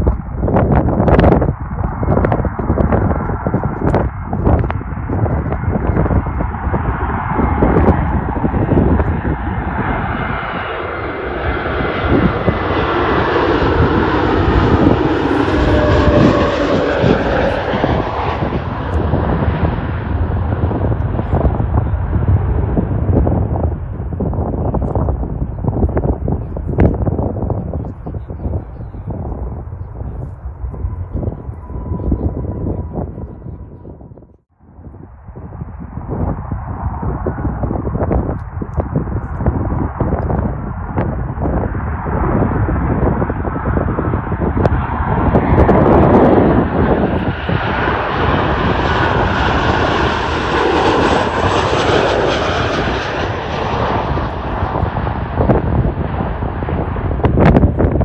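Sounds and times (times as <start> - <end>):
jet airliner passing overhead: 0.0 - 58.0
wind buffeting microphone: 0.0 - 58.0.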